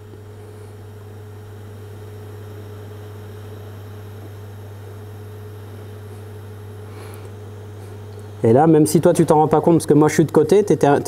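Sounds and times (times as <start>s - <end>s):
welding arc humming and hissing: 0.0s - 11.0s.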